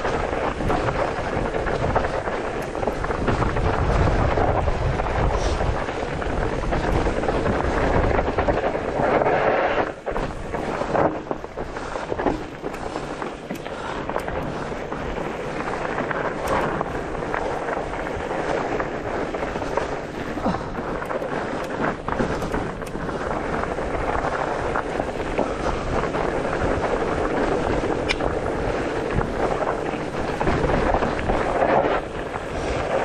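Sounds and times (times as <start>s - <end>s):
bike knocking and rattling: 0.0s - 33.0s
tyres rolling over dirt: 0.0s - 33.0s
wind noise on microphone: 0.0s - 33.0s.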